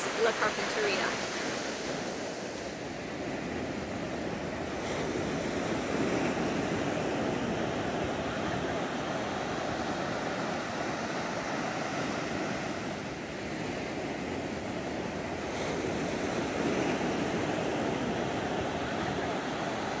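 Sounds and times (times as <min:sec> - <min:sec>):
ocean surf breaking on beach: 0:00.0 - 0:20.0.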